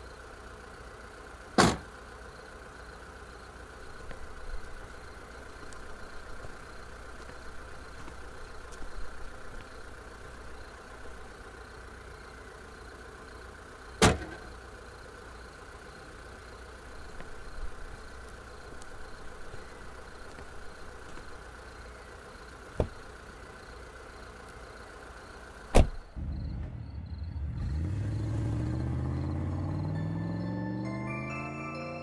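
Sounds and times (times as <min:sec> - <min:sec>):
car engine idling: 0:00.0 - 0:30.8.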